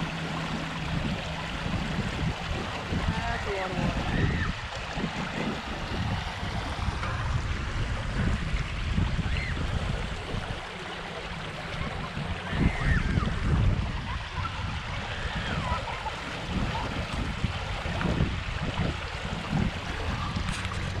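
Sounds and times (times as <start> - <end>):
rush of draining water: 0.0 - 21.0.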